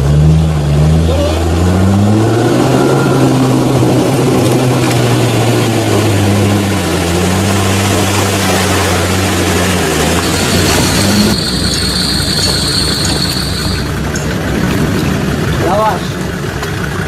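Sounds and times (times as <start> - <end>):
off-road engine revving: 0.0 - 17.0.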